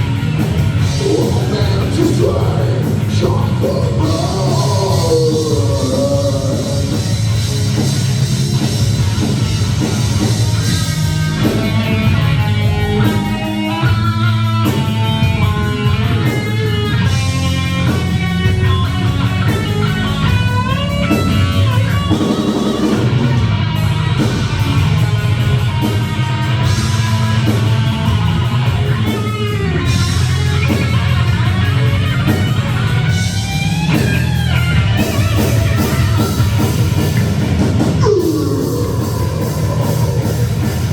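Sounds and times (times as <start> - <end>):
bass and drums: 0.0 - 40.9
lead guitar runs with bends: 0.0 - 40.9.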